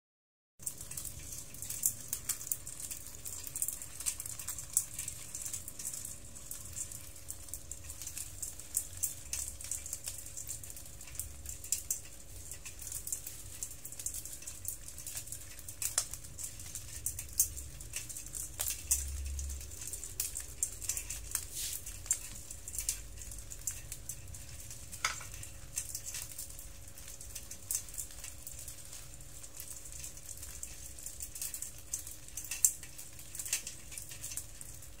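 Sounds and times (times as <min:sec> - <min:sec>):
crab shells clicking and rattling: 0:00.6 - 0:35.0
faint steady hum: 0:00.6 - 0:35.0.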